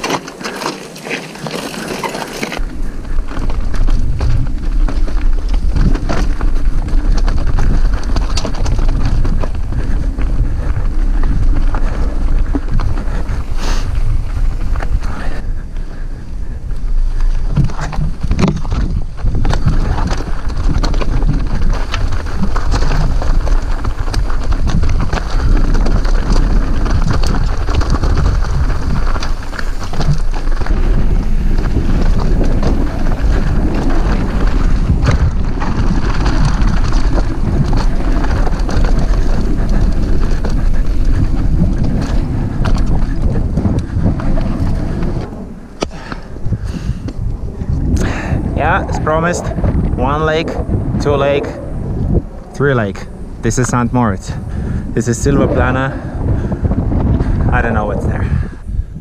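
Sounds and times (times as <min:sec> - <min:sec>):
bike rattling over rocks: 0:00.0 - 0:59.0
tyres crunching on loose stones: 0:00.0 - 0:59.0
wind buffeting microphone: 0:01.8 - 0:59.0.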